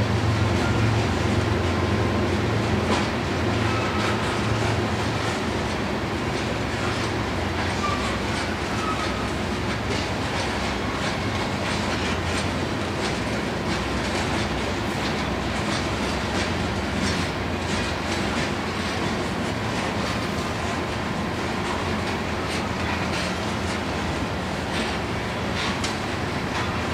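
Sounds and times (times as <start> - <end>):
train cars rumbling past: 0.0 - 26.9
wheels clicking over rail joints: 0.4 - 26.9.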